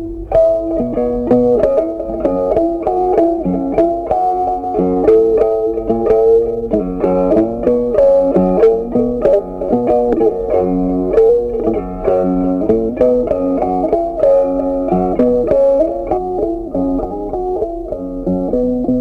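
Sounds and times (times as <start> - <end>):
plucked guitar melody: 0.0 - 19.0.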